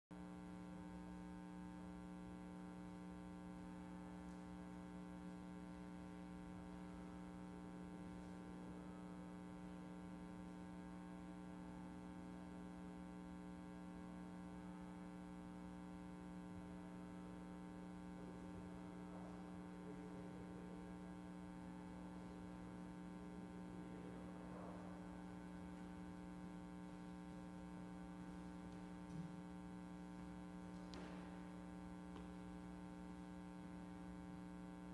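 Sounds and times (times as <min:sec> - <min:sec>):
faint mains hum: 0:00.2 - 0:34.9.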